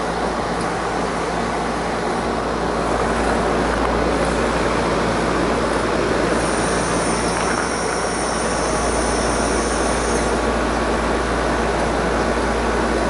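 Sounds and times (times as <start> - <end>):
condenser fan rushing: 0.0 - 13.0.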